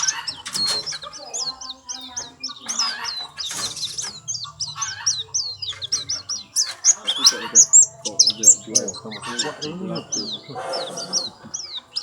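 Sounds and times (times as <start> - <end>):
bird chirping rapidly: 0.0 - 12.0.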